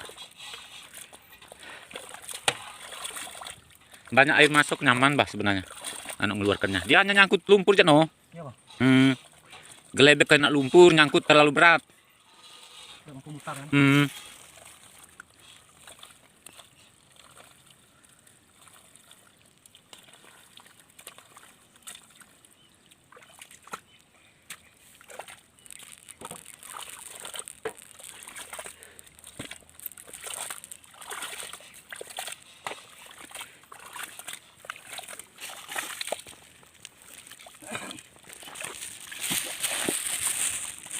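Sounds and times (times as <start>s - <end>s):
mud and water sloshing: 0.0s - 40.9s.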